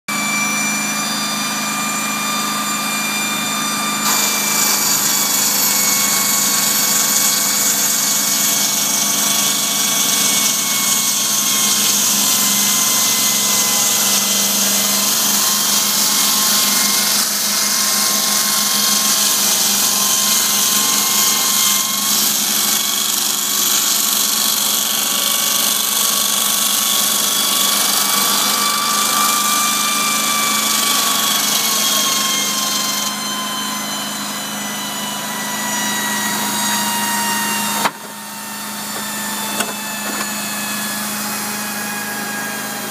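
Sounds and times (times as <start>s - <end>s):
circular saw cutting stone: 0.1s - 42.9s.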